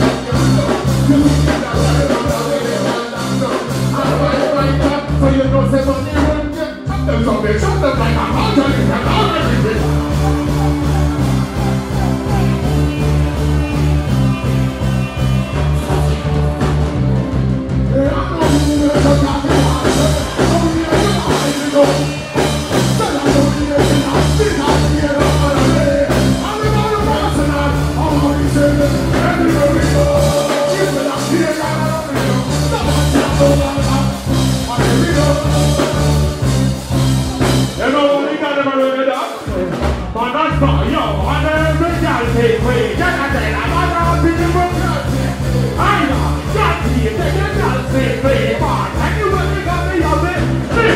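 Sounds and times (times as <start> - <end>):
vocals through a pa: 0.0 - 13.4, 17.8 - 36.5, 37.4 - 50.9
repeating bass line: 0.0 - 38.2, 39.5 - 50.9
live band playing dancehall: 0.0 - 50.9.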